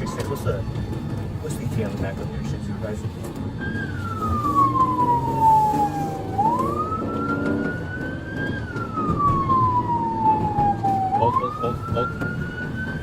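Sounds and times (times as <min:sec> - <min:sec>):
police siren wailing: 0:00.0 - 0:01.0, 0:03.4 - 0:13.0
car engine and road noise: 0:00.0 - 0:13.0.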